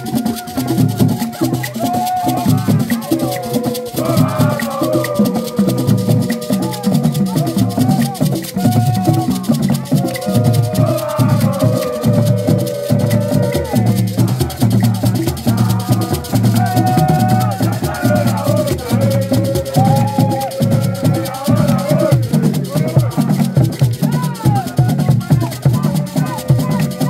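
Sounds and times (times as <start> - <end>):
hand drums beating fast rhythm: 0.0 - 27.0
shakers rattling: 0.0 - 27.0
voices singing: 0.0 - 27.0.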